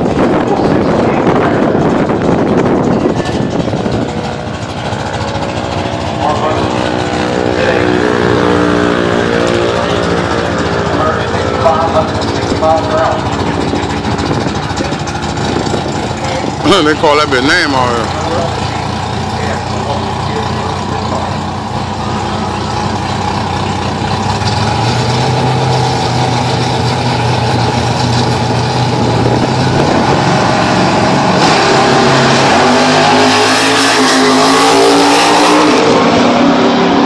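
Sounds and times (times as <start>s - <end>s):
drag car engine accelerating: 0.0s - 37.0s.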